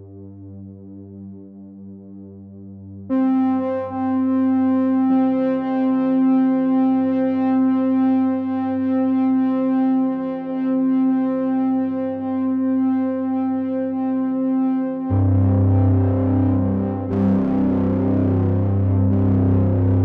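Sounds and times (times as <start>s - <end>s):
sustained synthesizer chords: 3.1s - 20.0s.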